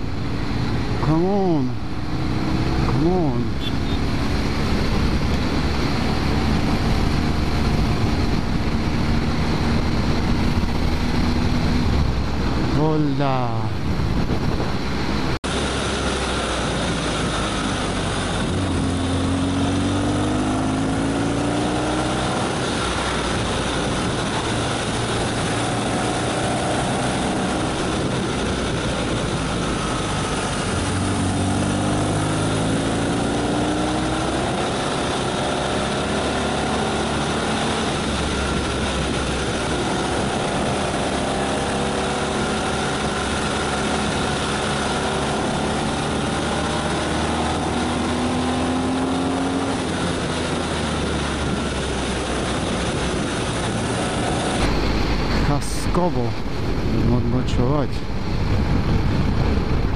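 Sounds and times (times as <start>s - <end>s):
motorcycle engine accelerating: 0.0s - 59.9s
wind and road noise: 0.0s - 59.9s.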